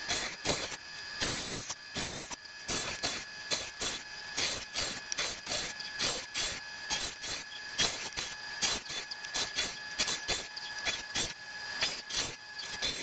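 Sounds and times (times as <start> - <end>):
band saw whining: 0.0 - 13.0
saw rasping through wood: 0.0 - 13.0.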